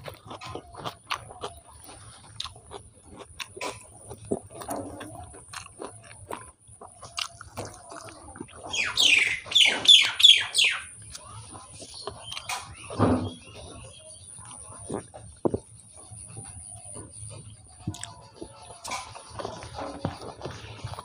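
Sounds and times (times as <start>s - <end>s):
wet chewing and lip smacks: 0.0s - 21.0s.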